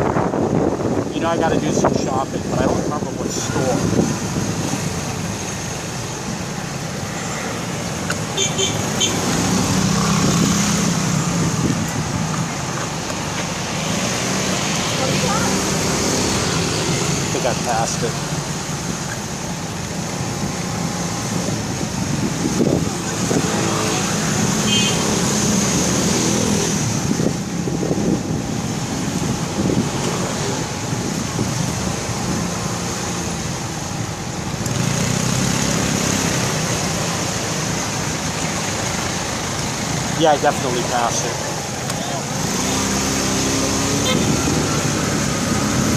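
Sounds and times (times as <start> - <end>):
steady rushing noise: 0.0 - 45.9
vehicles passing: 0.0 - 45.9
wind and road noise: 0.0 - 45.9.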